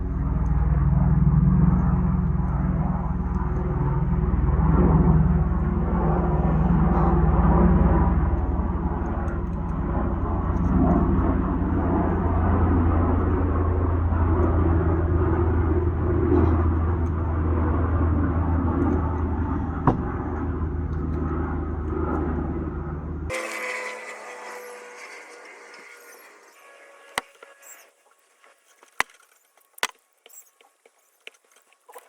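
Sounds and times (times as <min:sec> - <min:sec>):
mechanical rumble with hum: 0:00.0 - 0:31.3.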